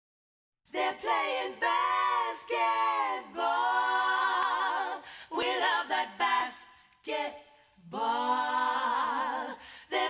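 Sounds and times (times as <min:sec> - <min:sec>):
person singing a cappella: 0:00.7 - 0:10.0.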